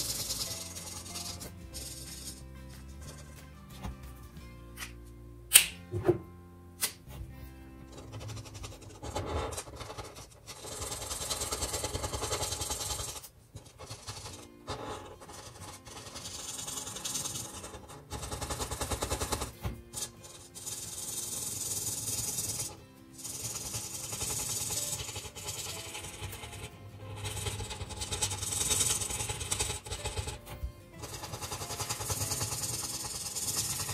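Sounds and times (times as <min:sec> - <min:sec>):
marker rubbing on paper: 0:00.0 - 0:04.0, 0:07.9 - 0:33.9
quiet background music: 0:00.0 - 0:33.9.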